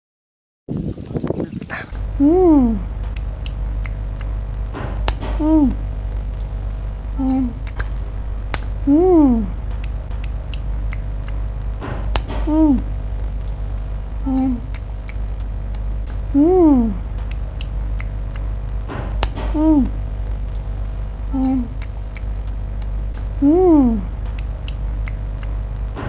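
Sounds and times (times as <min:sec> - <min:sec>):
faint high whine: 0:00.7 - 0:26.0
low hum: 0:00.7 - 0:26.0.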